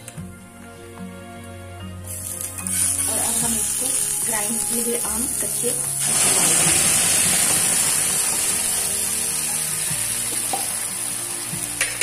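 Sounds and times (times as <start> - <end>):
paste sizzling in hot oil: 2.0 - 12.0.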